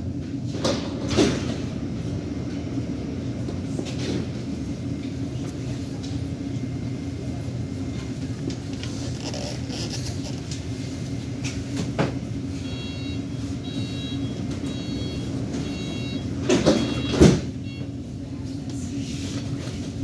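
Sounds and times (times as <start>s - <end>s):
metro train rumble and hum: 0.0s - 20.0s.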